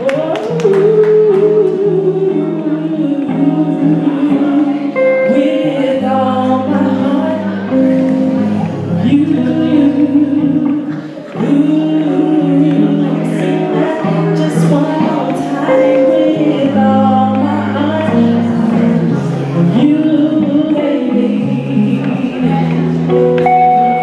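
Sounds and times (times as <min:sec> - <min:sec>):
instrumental accompaniment: 0:00.0 - 0:24.0
woman singing into a microphone: 0:00.0 - 0:24.0.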